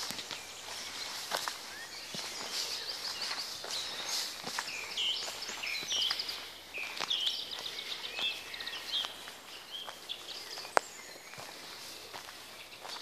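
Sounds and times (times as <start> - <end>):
footsteps on forest floor: 0.0 - 13.0
songbirds chirping: 0.0 - 13.0.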